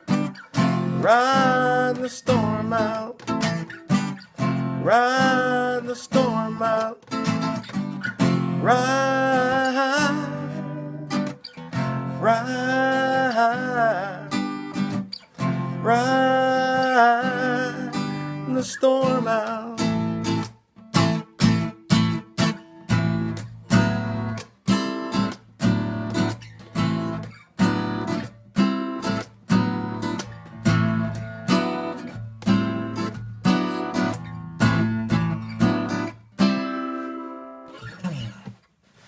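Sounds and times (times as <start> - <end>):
acoustic guitar strumming: 0.0 - 38.7.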